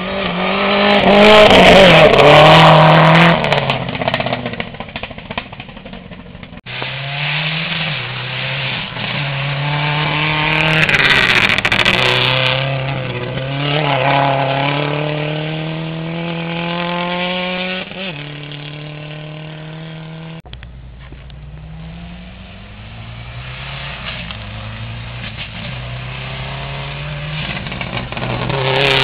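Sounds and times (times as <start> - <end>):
rally car speeding past: 0.0 - 4.7, 6.7 - 20.4, 21.6 - 29.0
rally car engine changing gears: 0.0 - 29.0.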